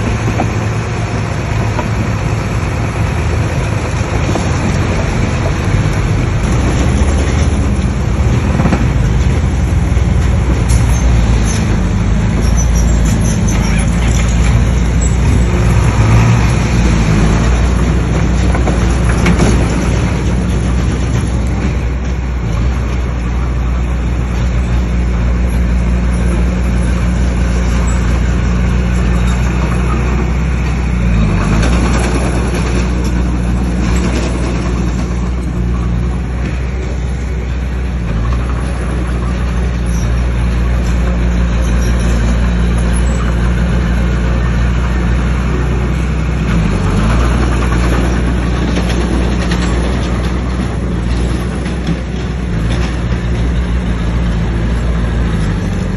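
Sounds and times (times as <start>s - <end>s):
bulldozer diesel engine under load: 0.0s - 55.9s.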